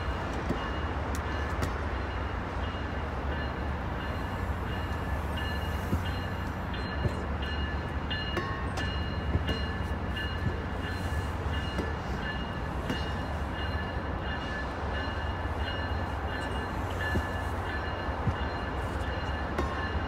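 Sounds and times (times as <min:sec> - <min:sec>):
train cars rumbling: 0:00.0 - 0:20.0.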